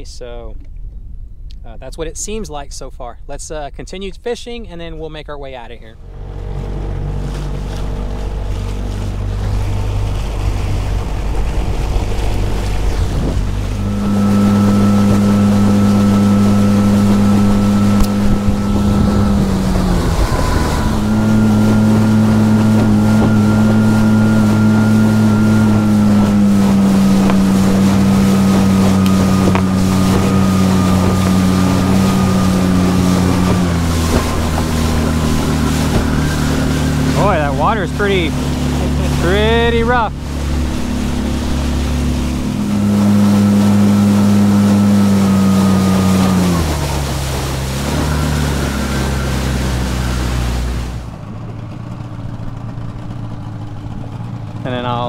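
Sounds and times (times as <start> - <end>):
outboard motor running: 5.5 - 55.0
wind on microphone: 5.9 - 54.6
hull slapping through water: 6.0 - 55.0.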